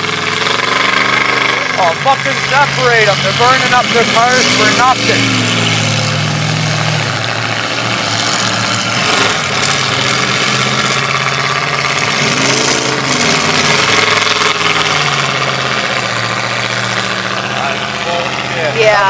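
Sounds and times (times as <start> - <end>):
car engines running under load: 0.0 - 19.0
engine revving: 0.0 - 19.0.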